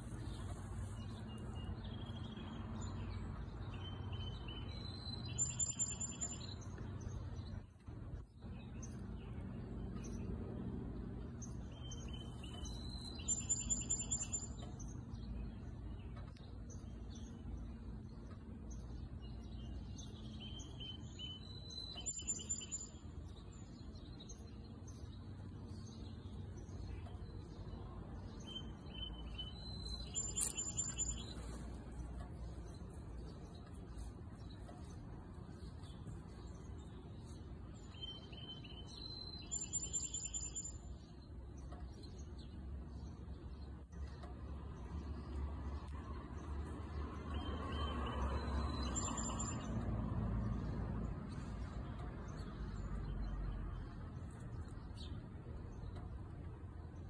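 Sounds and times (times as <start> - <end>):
bird chirps: 0.0 - 10.3, 11.4 - 44.3, 47.3 - 49.8
songbird singing: 0.0 - 57.0.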